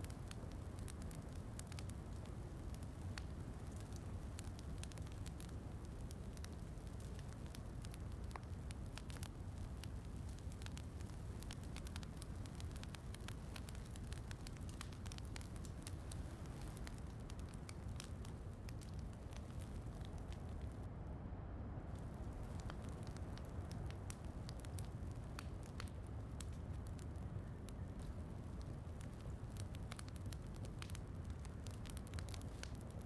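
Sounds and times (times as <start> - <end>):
wood fire crackling: 0.0 - 20.9, 21.9 - 33.0.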